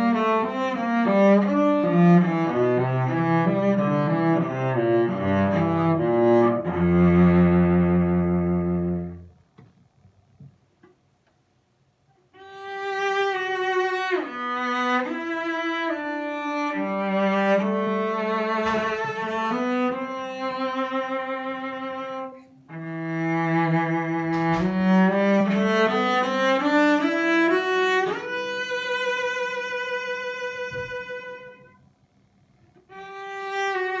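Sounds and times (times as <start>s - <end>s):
bowed cello melody: 0.0s - 9.4s, 12.3s - 31.8s, 32.8s - 34.0s.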